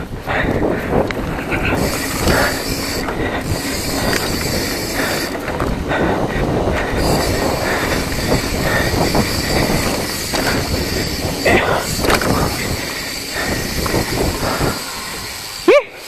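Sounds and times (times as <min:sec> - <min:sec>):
bike tyres rumbling on dirt: 0:00.0 - 0:15.7
bike rattling: 0:00.0 - 0:16.0.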